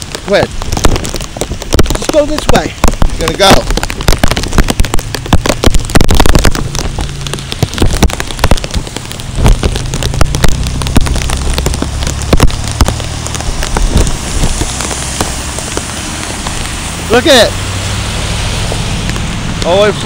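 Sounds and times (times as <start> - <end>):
cars driving through flooded street: 0.0 - 20.0
raindrops tapping near microphone: 0.0 - 20.0.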